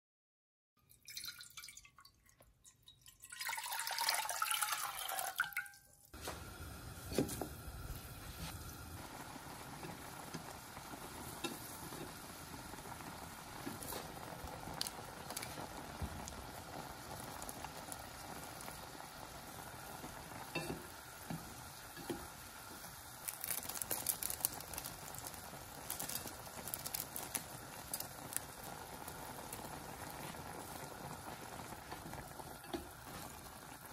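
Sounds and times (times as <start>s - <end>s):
water boiling in a pot: 0.8s - 33.9s.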